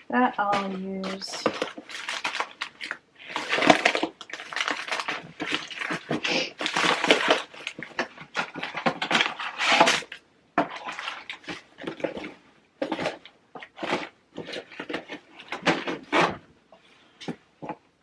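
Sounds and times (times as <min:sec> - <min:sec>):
packaged food clattering: 0:00.4 - 0:16.5.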